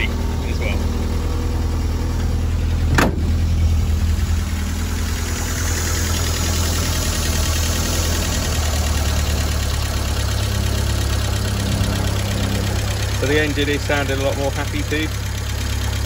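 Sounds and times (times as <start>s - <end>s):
engine idling with light ticking: 0.0s - 16.0s.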